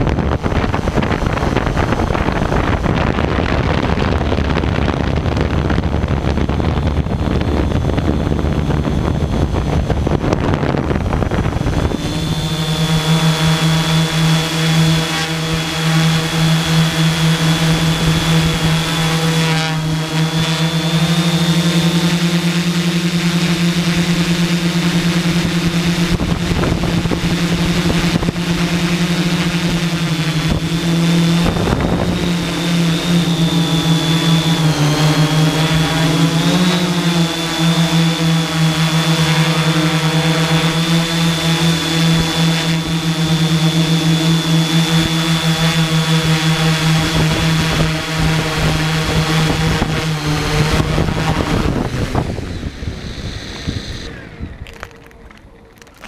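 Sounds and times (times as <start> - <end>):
drone motors and propellers droning: 0.0 - 56.0
high whine: 0.0 - 56.0.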